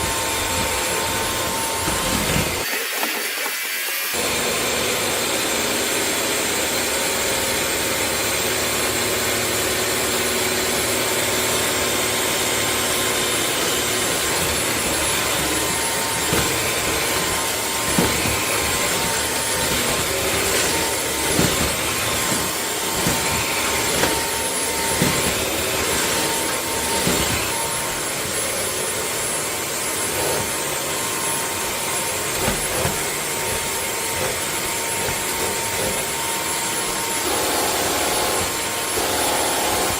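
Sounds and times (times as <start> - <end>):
floor vacuum motor whine: 0.0 - 39.9.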